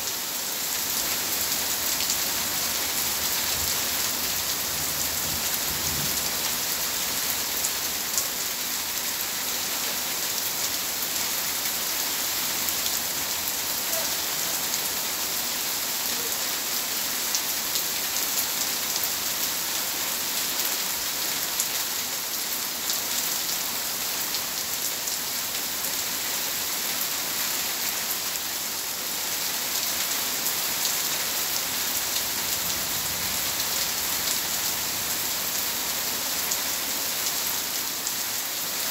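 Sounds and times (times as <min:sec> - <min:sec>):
heavy rain on paving and plants: 0:00.0 - 0:38.9.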